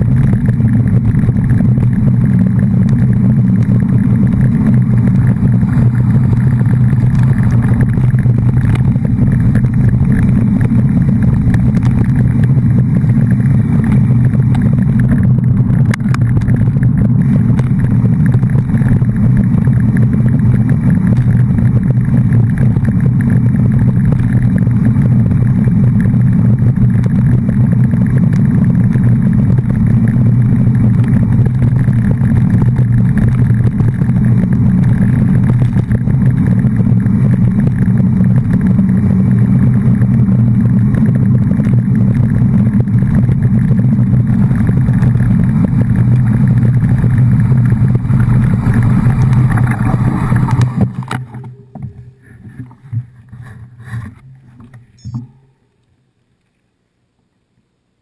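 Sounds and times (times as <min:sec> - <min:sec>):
vehicle running low rumble: 0:00.0 - 0:55.8.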